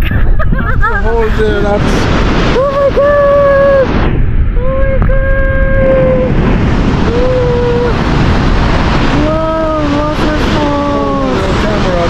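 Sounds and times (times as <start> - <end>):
waterfall roaring: 0.0 - 12.0
wind buffeting microphone: 0.0 - 12.0.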